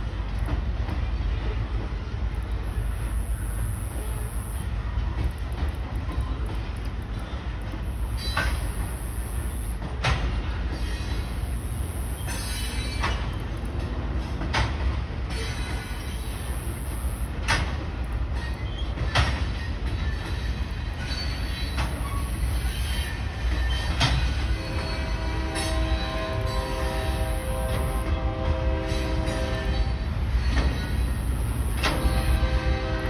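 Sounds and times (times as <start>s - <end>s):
freight cars rumbling: 0.0s - 33.0s
wheels clacking over rail joints: 0.0s - 33.0s.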